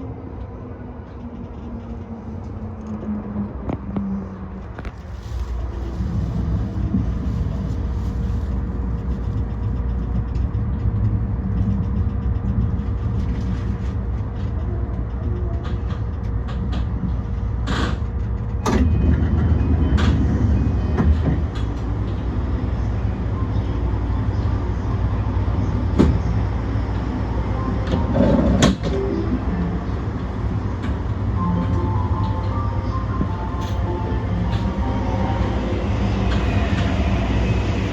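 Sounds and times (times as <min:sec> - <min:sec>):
train wheels rumbling: 0:00.0 - 0:37.9.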